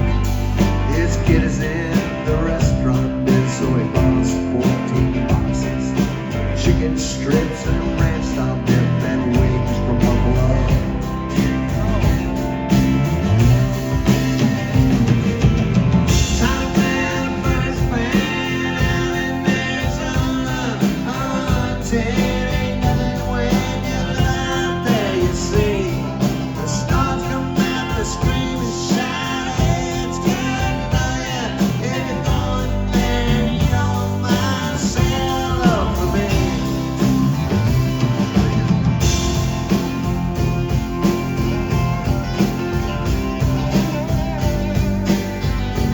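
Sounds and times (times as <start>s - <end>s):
country-rock band playing: 0.0s - 45.9s
lead guitar bending sliding notes: 0.0s - 45.9s.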